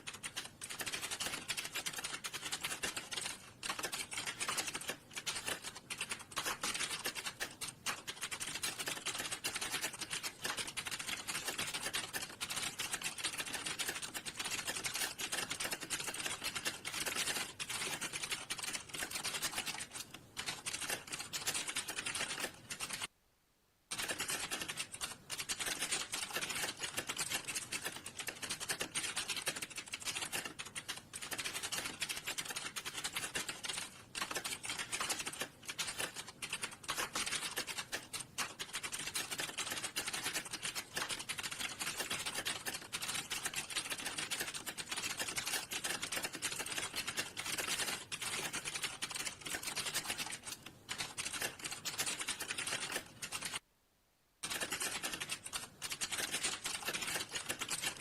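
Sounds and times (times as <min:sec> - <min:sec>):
fast keyboard typing: 0:00.0 - 0:23.1, 0:23.9 - 0:53.6, 0:54.4 - 0:58.0.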